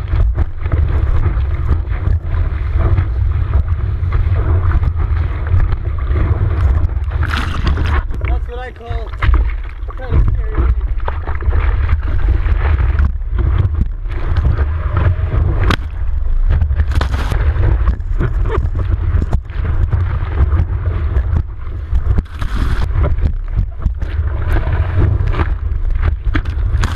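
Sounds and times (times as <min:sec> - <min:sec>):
ocean water rushing and splashing: 0:00.0 - 0:26.9
wind buffeting microphone: 0:00.0 - 0:26.9.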